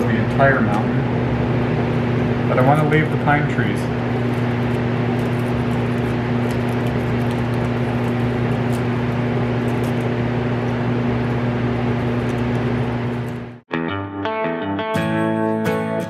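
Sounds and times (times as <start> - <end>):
air compressor humming: 0.0 - 13.6.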